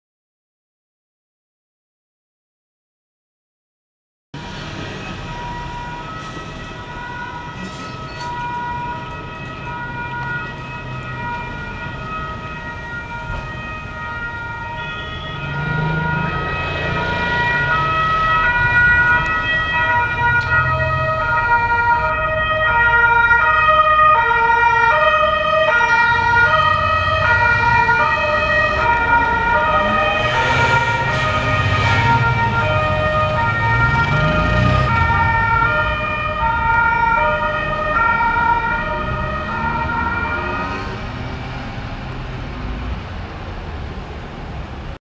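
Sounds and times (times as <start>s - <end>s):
two-tone emergency sirens: 4.4s - 43.1s
traffic engine rumble: 4.4s - 45.0s.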